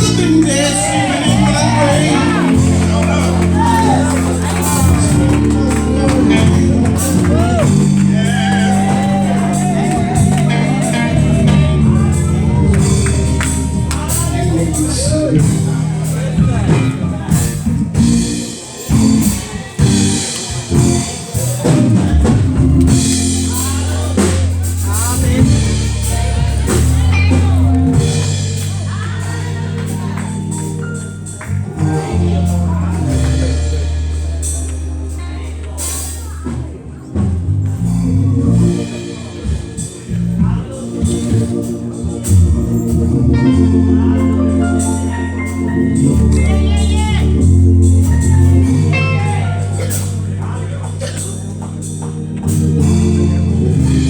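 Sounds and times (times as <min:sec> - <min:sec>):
drum and cymbal hits: 0:00.0 - 0:43.4
gospel band playing: 0:00.0 - 0:54.0.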